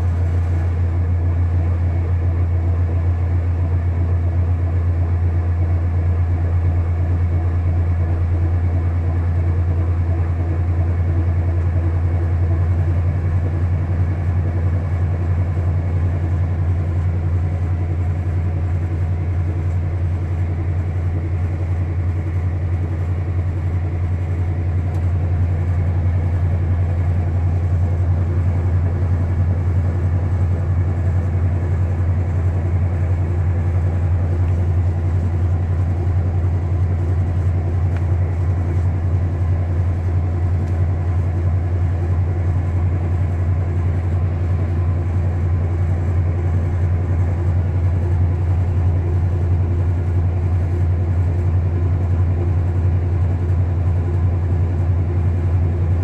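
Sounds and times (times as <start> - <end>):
washing machine motor hum: 5.8 - 56.0.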